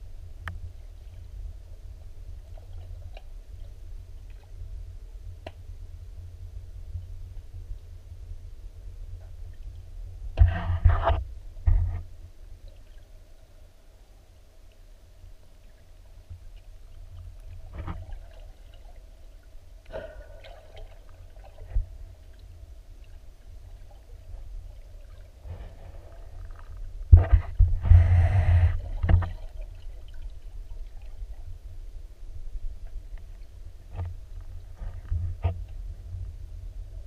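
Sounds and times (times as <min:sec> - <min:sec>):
faint hum: 0:00.0 - 0:37.0
underwater river rumble: 0:00.0 - 0:37.0.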